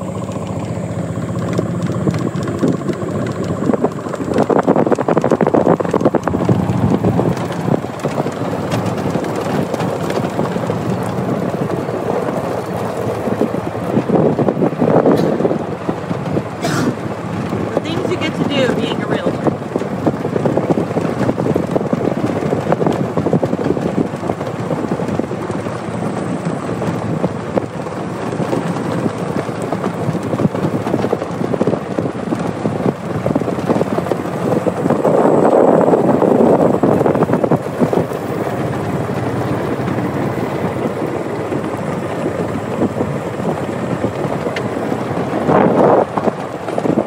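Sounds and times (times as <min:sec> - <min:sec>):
golf cart driving with rattling: 0:00.0 - 0:47.0.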